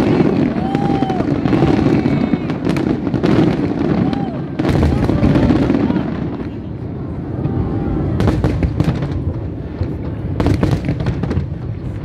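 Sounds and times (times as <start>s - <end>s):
low rumble of firework bursts: 0.0s - 12.0s
sharp crackling firework bangs: 0.0s - 12.0s.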